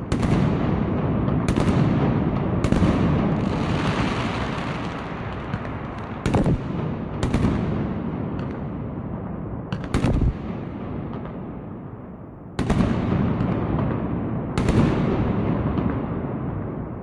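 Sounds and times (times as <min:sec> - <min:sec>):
firework bangs with echo: 0:00.0 - 0:17.0
rumble of distant fireworks: 0:00.0 - 0:17.0.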